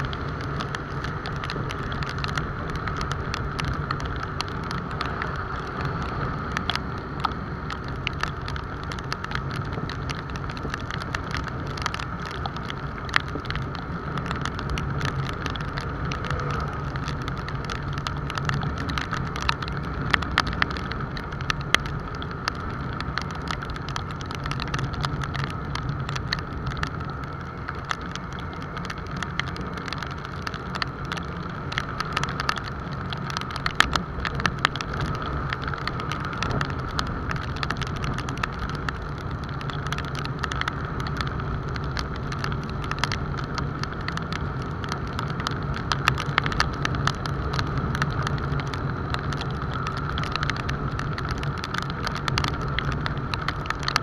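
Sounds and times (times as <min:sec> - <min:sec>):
raindrops ticking on camera: 0:00.0 - 0:54.0.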